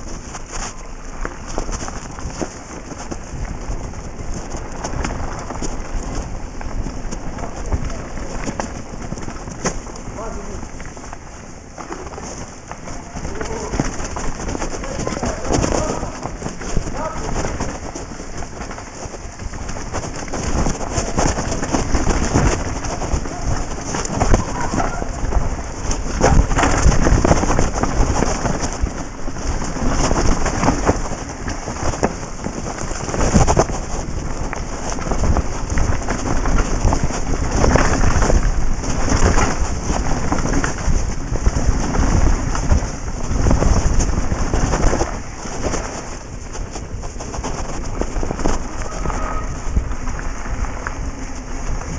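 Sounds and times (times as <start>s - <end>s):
mountain bike rattling: 0.0s - 51.9s
wind rumble on microphone: 0.0s - 51.9s.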